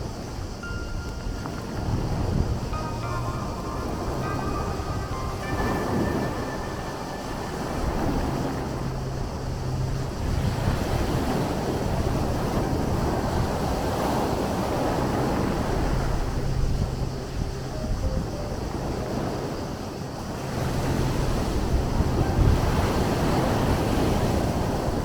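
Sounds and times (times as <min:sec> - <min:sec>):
sea waves breaking: 0:00.0 - 0:25.0
wind buffeting microphone: 0:00.0 - 0:25.0.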